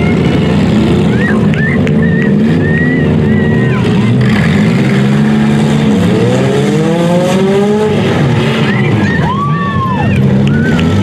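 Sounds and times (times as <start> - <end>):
engine revving: 0.0 - 9.2, 10.1 - 11.0
car engines running loudly: 0.0 - 11.0.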